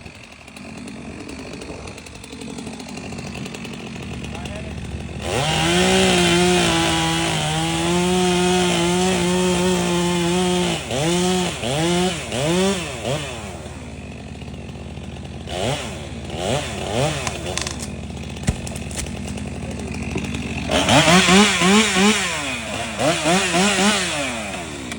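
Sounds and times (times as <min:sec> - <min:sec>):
chainsaw cutting wood: 0:00.0 - 0:24.9
chainsaw revving and idling: 0:00.0 - 0:24.9.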